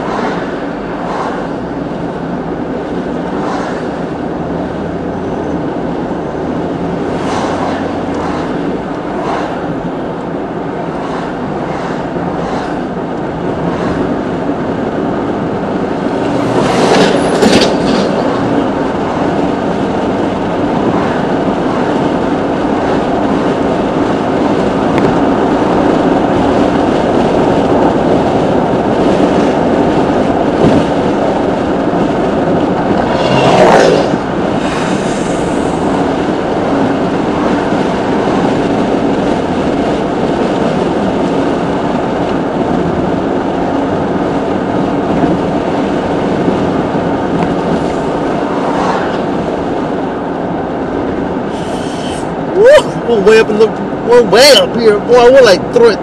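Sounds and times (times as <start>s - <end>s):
road and engine noise: 0.0s - 56.0s.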